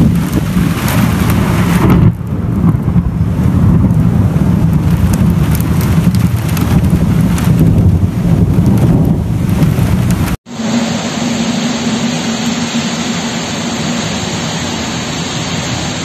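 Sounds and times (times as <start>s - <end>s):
heavy rain hissing: 0.0s - 16.0s
thunder rumble: 0.0s - 16.0s.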